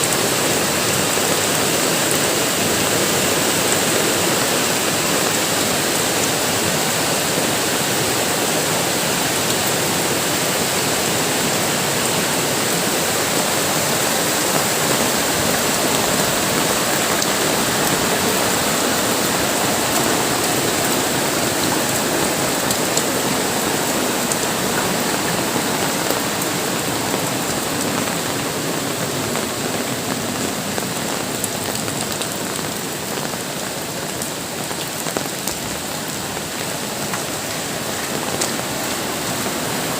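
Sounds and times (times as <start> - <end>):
heavy rain pouring: 0.0 - 39.9
raindrops ticking on surfaces: 0.0 - 39.9.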